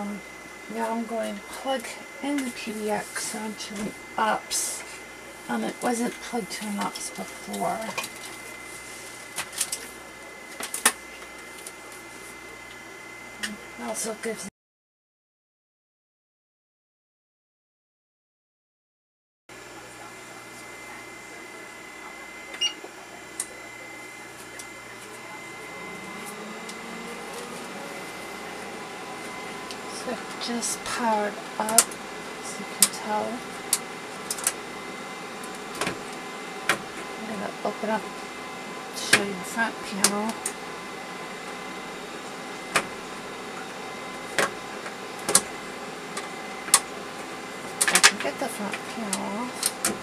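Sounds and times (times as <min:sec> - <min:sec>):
cooling fans humming: 0:00.0 - 0:14.5, 0:19.6 - 0:50.0.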